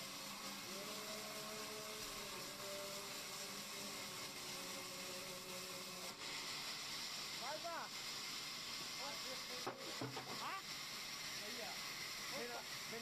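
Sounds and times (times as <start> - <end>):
band saw cutting wood: 0.0 - 13.0.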